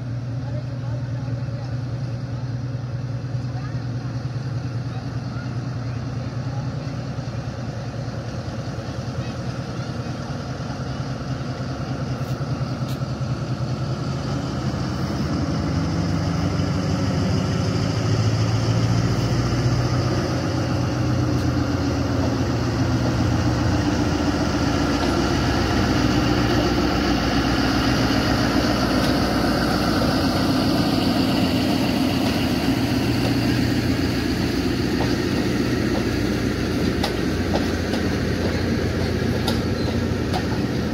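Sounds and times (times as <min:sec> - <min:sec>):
diesel locomotive engine running: 0:00.0 - 0:40.9.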